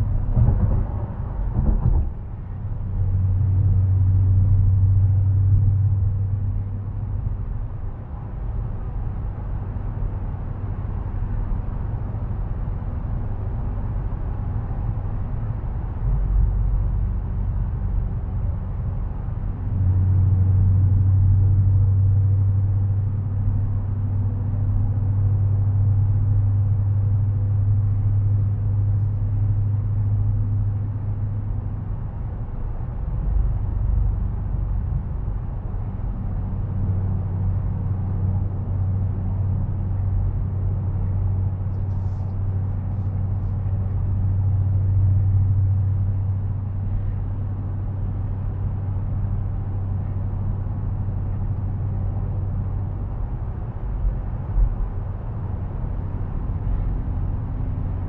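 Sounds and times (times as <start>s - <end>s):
car engine and tyre drone: 0.0s - 58.0s.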